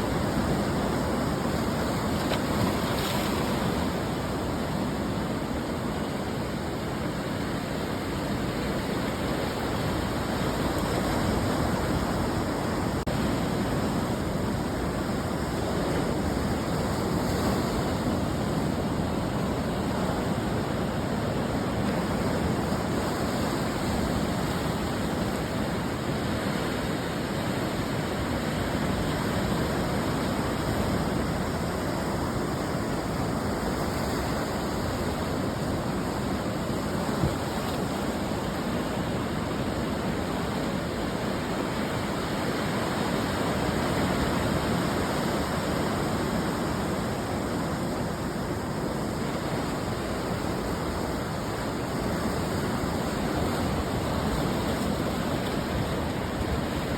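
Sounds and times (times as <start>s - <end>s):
ocean surf breaking on shore: 0.0s - 56.9s.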